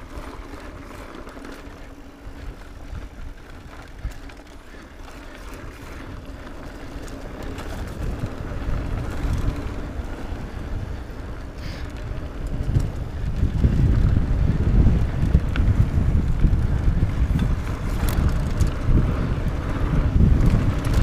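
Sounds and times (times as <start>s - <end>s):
bike rattling and clicking: 0.0s - 21.0s
tyres running on dirt: 0.0s - 21.0s
wind rushing over microphone: 0.0s - 21.0s.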